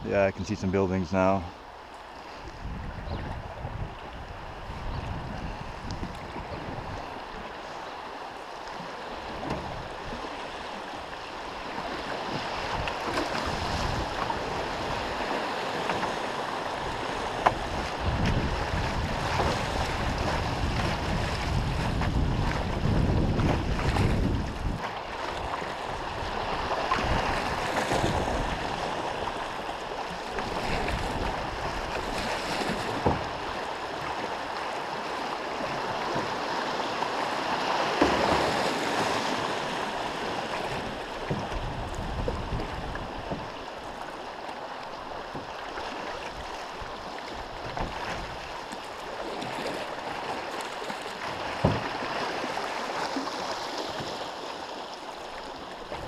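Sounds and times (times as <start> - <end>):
river current rushing: 0.0 - 56.0.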